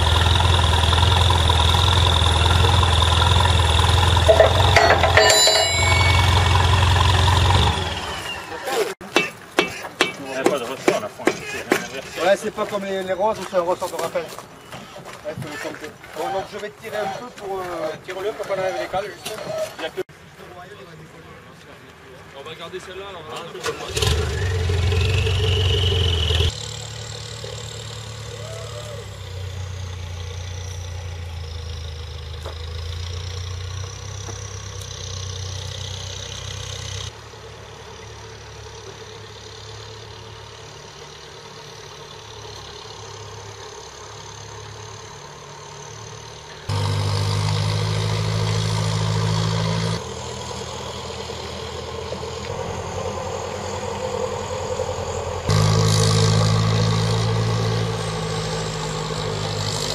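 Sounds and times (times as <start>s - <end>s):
tow tractor engine running: 0.0s - 19.0s, 21.2s - 59.9s.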